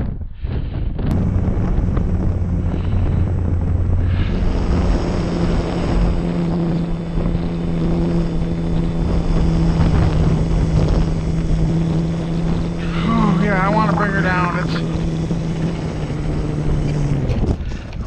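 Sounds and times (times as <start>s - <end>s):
model airplane motor and propeller: 0.0s - 18.0s
wind buffeting microphone: 0.0s - 18.0s.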